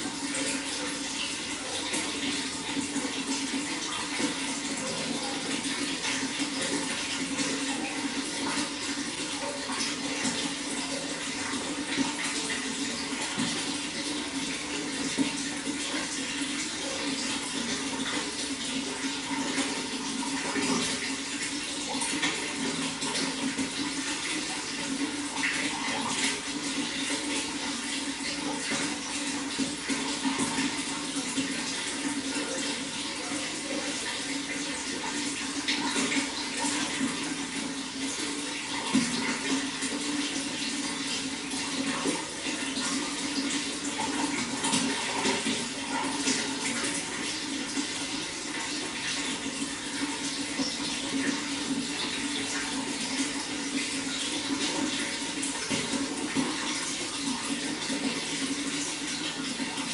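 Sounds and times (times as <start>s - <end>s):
water flowing and splashing: 0.0s - 59.9s.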